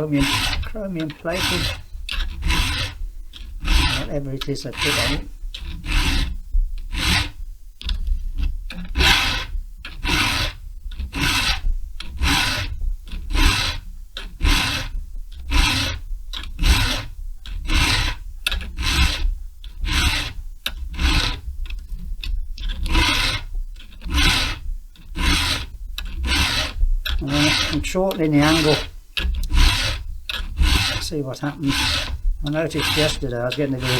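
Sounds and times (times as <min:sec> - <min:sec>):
hand file rasping on chain: 0:00.0 - 0:33.9.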